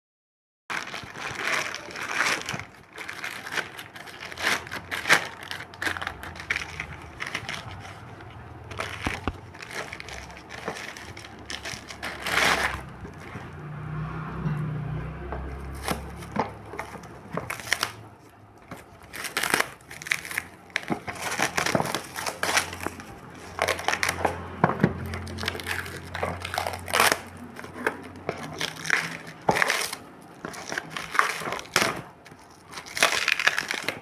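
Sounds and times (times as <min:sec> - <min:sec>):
crinkling and crackling handling: 0:00.7 - 0:13.6, 0:15.3 - 0:34.0.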